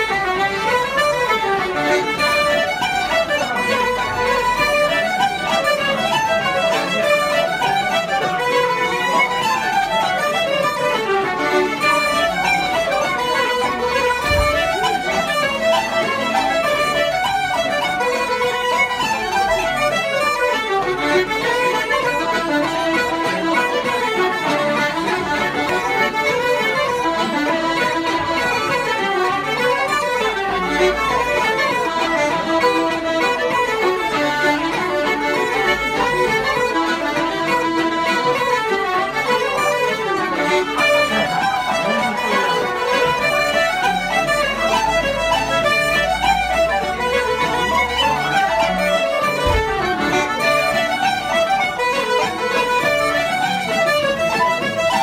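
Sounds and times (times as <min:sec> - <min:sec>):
fiddle playing: 0:00.0 - 0:55.0
flute playing: 0:00.0 - 0:55.0
guitar accompaniment: 0:00.0 - 0:55.0.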